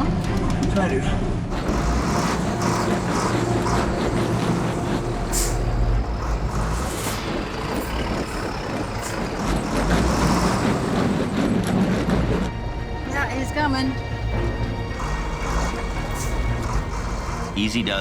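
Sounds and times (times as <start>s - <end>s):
diesel truck engines under load: 0.0s - 18.0s.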